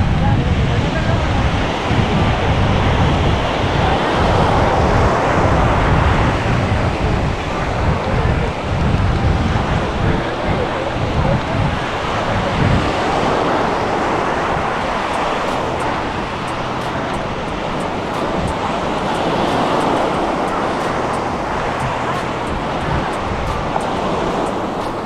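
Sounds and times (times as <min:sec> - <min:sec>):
surf washing ashore: 0:00.0 - 0:25.0
wind buffeting microphone: 0:00.0 - 0:25.0.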